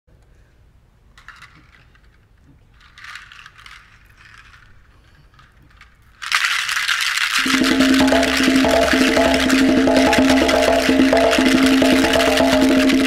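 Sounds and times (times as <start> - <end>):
hand rattle shaken softly: 1.2 - 13.0.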